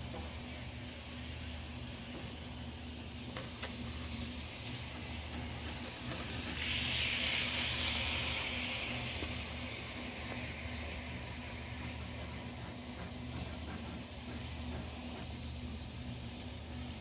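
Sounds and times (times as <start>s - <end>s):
model train motor and wheels whirring: 0.0s - 17.0s
steady low hum: 0.0s - 17.0s.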